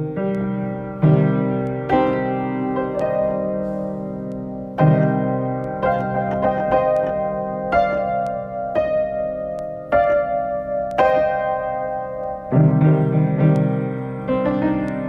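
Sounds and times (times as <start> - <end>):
keyboard playing sustained chords: 0.0 - 15.0.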